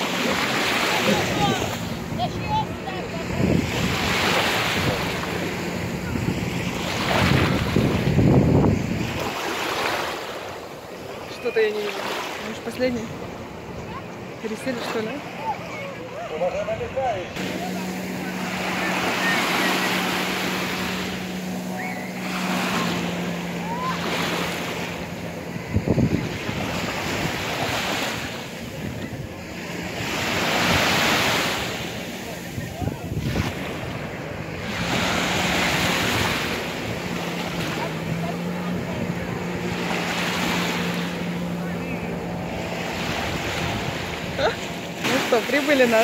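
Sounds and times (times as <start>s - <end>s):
wind gusting on microphone: 0.0s - 11.0s, 16.6s - 46.0s
distant jet ski engine droning: 0.0s - 46.0s
small waves washing in shallows: 0.0s - 46.0s.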